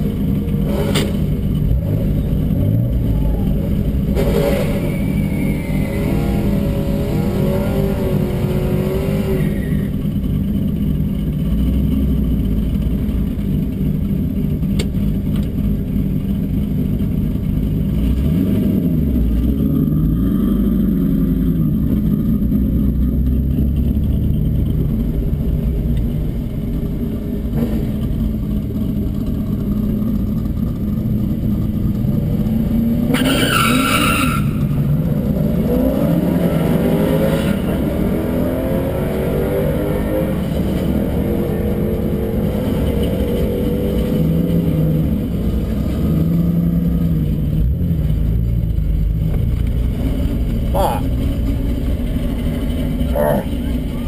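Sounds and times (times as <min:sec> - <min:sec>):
car engine running from cabin: 0:00.0 - 0:54.0
drag car revving: 0:00.0 - 0:54.0.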